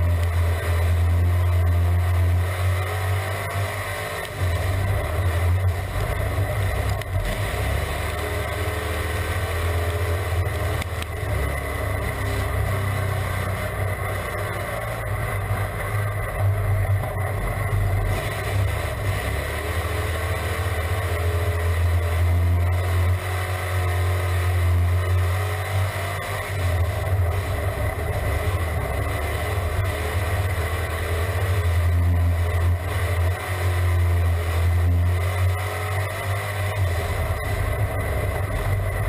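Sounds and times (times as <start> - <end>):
race car engine running: 0.0 - 39.0.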